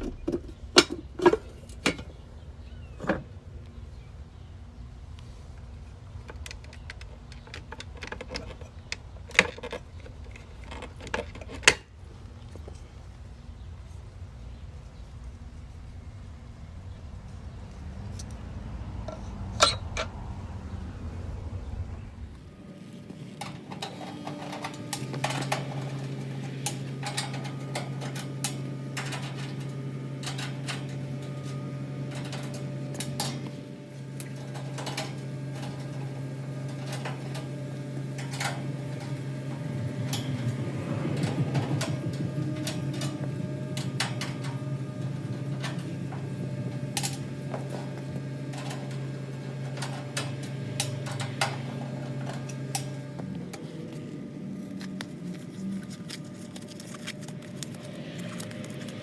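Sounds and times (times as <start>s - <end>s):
air conditioner unit humming: 0.0s - 59.0s.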